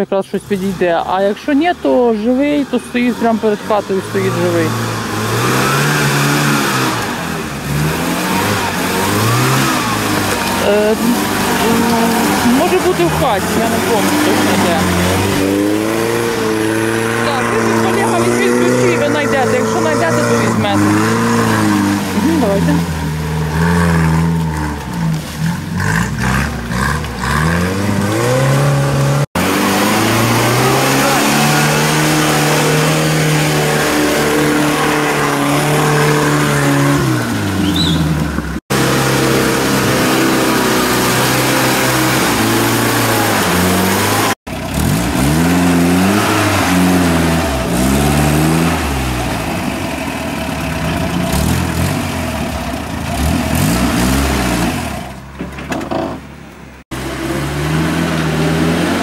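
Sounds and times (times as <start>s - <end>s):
off-road engines revving: 0.0s - 59.0s.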